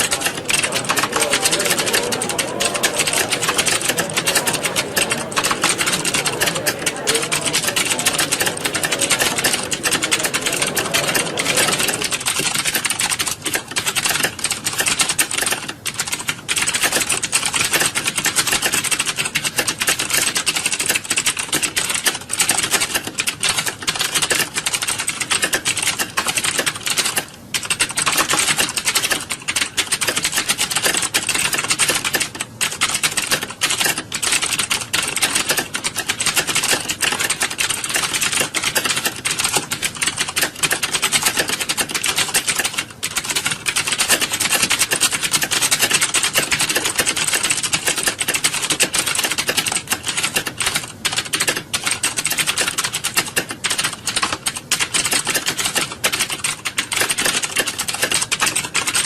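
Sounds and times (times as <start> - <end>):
keyboards typing clatter: 0.0 - 59.0.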